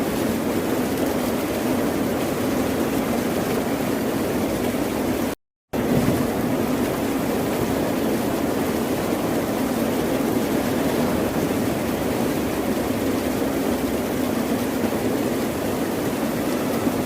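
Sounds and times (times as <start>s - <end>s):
ocean surf washing: 0.0s - 17.0s.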